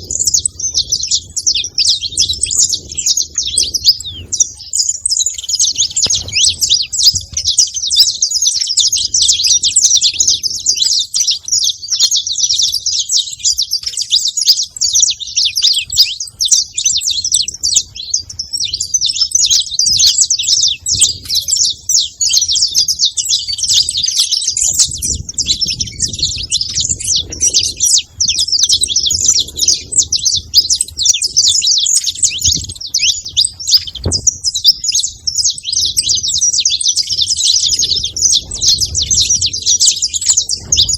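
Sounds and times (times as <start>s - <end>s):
finch chirping: 0.0s - 40.9s.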